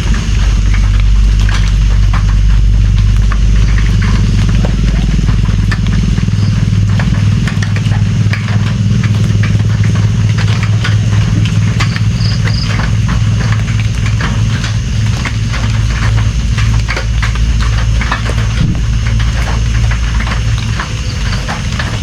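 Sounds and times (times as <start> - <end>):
raindrops ticking: 0.0 - 22.0
steady low rumble: 0.0 - 22.0.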